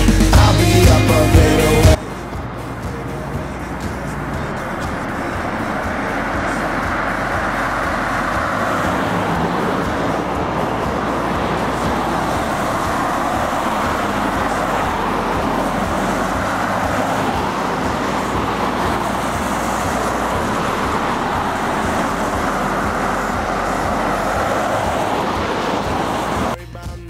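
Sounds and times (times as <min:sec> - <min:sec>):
tyres hissing on wet road: 0:00.0 - 0:26.6.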